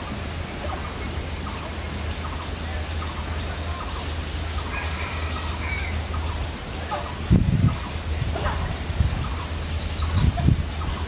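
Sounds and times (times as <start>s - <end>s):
bird calls: 0.0s - 11.0s.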